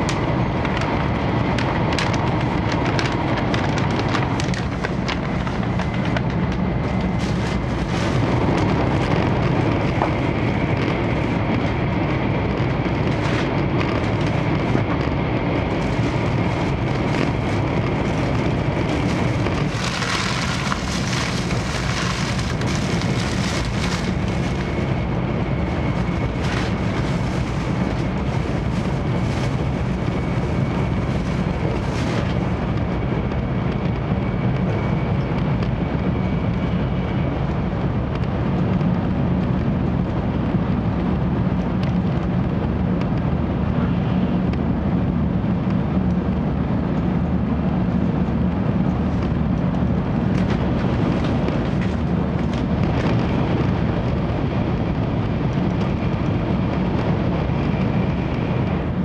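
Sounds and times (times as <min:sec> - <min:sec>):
train wheels and air rumbling: 0:00.0 - 0:59.0.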